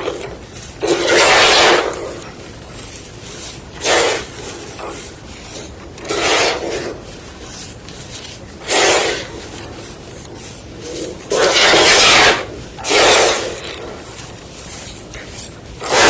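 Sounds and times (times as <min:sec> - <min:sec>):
chalk crunching by hand: 0:00.0 - 0:16.0.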